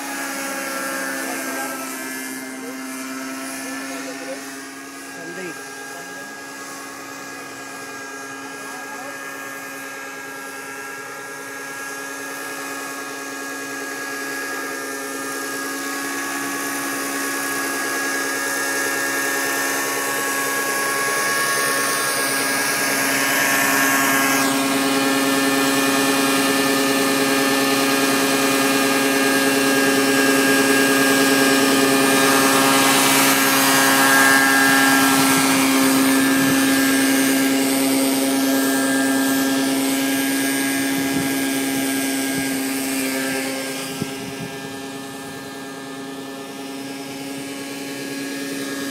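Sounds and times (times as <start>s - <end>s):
model helicopter whine: 0.0s - 48.9s.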